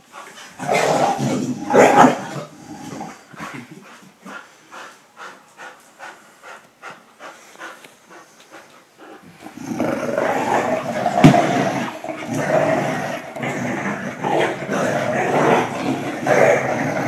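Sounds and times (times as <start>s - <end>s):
dogs growling: 0.0s - 17.0s.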